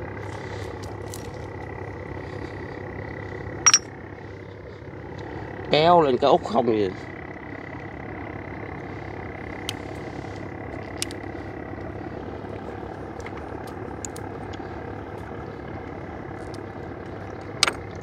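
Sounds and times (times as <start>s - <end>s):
boat engine idling: 0.0s - 18.0s
thin steady whine: 0.0s - 18.0s.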